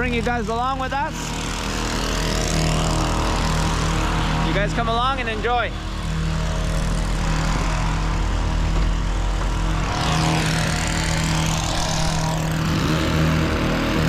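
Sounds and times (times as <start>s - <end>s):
hedge trimmer engine drone: 0.0s - 14.0s
high whirring: 0.0s - 14.0s.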